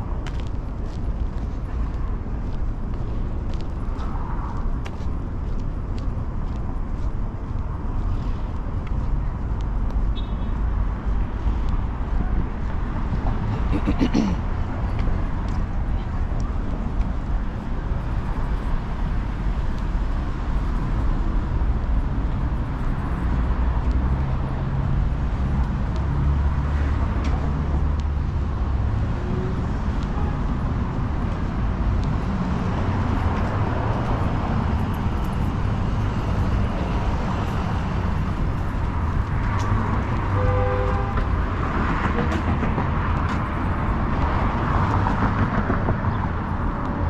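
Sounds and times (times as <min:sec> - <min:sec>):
street traffic rumble: 0:00.0 - 0:47.0.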